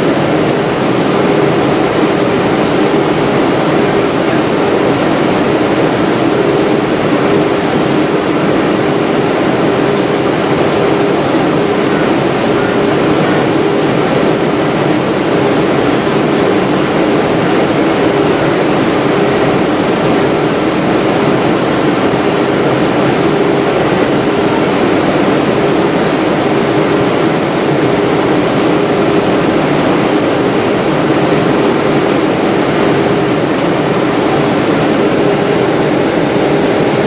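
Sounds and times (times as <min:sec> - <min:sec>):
airliner cabin jet engine drone: 0:00.0 - 0:37.0
constant low hum: 0:00.0 - 0:37.0.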